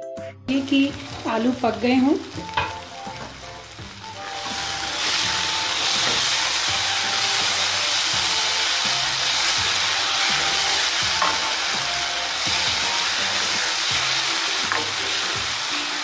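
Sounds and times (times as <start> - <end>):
vegetables sizzling in a frying pan: 0.5 - 16.0.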